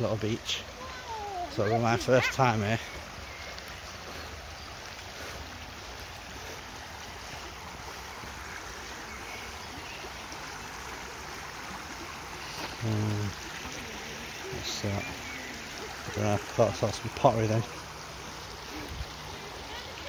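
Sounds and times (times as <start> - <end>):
river flowing over stones: 0.0 - 20.0.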